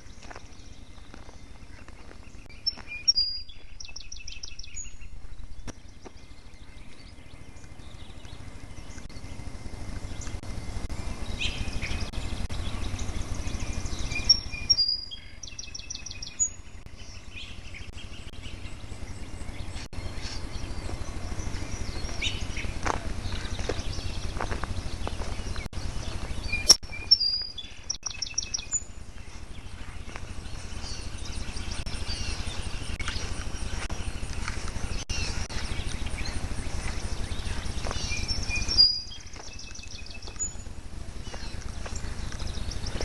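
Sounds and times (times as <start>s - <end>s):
faint bird calls: 0.0s - 43.0s
songbird chirps and trill: 0.0s - 43.0s
steady low rumble: 0.0s - 43.0s.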